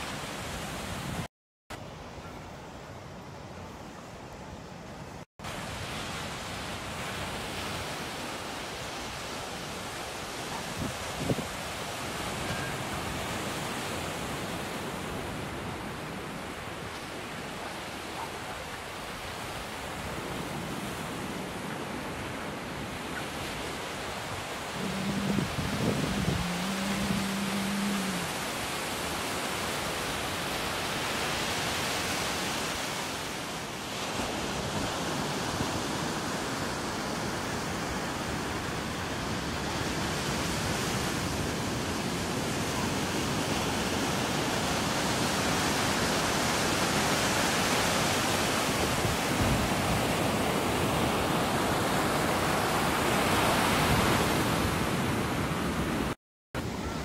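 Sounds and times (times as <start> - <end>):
ocean surf breaking: 5.5 - 57.0.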